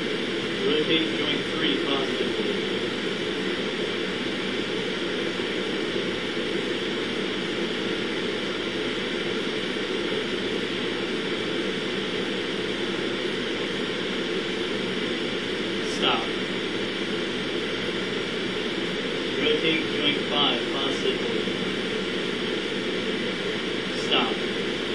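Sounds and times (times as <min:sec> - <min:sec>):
machine hum: 0:00.0 - 0:24.9.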